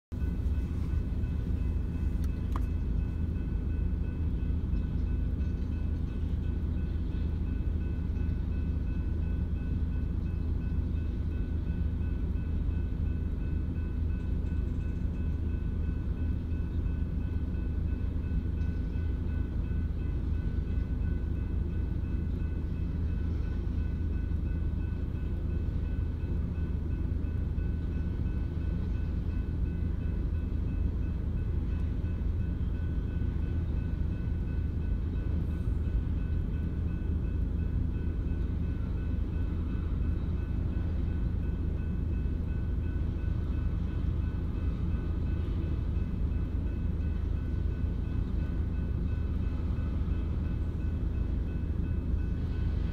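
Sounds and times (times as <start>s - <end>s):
freight train rumbling past: 0.1s - 52.9s.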